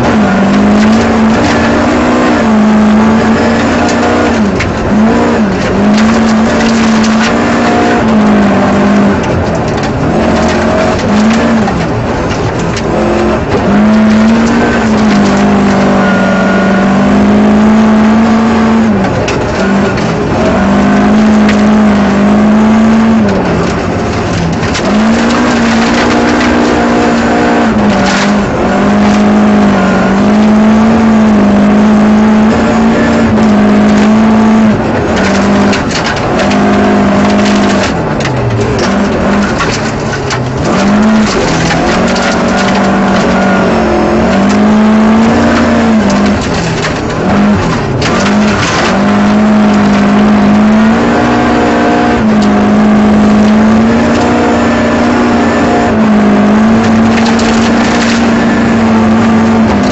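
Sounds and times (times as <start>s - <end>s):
gravel rattling against underside: 0.0s - 16.7s, 17.6s - 59.9s
rally car engine at high revs: 0.0s - 59.9s.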